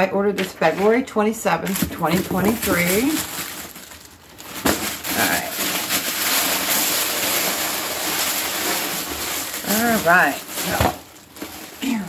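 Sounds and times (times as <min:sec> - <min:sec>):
plastic bag rustling: 0:01.6 - 0:12.0.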